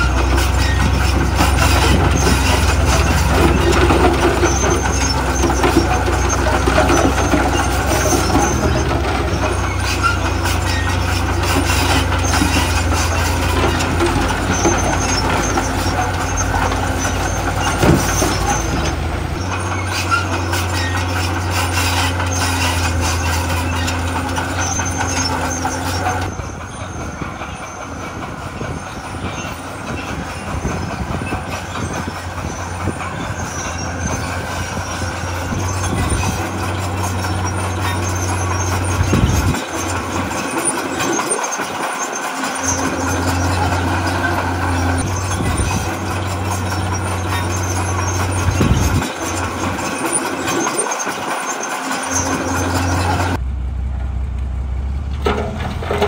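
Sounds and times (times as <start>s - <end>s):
rough grinding noise: 0.0s - 53.4s
heavy diesel machinery engine drone: 0.0s - 56.0s.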